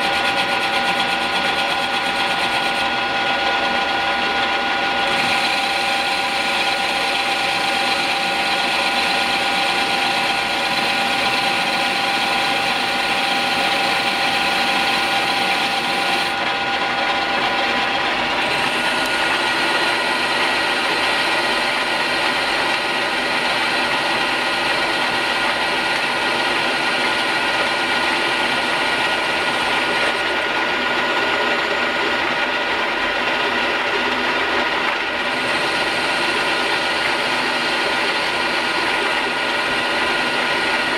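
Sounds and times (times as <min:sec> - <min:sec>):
metal lathe whirring: 0:00.0 - 0:40.9.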